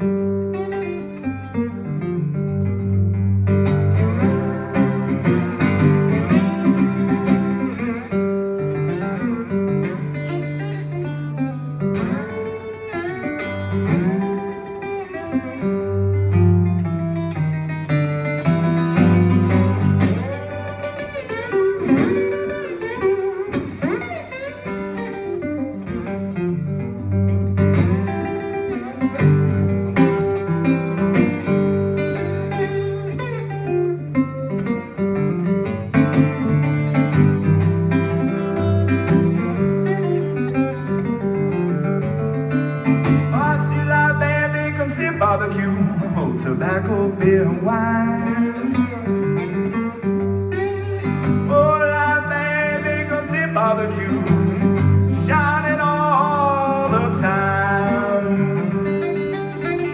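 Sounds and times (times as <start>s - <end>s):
blues guitar lead: 0.0s - 59.9s.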